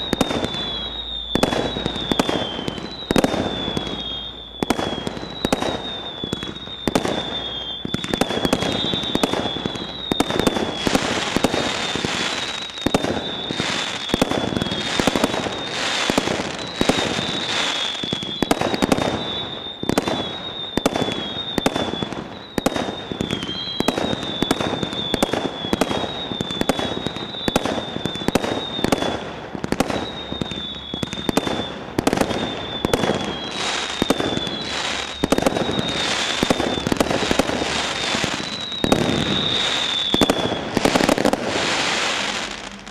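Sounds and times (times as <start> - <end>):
fireworks crackling: 0.0 - 42.9
whistling fireworks: 0.0 - 42.9.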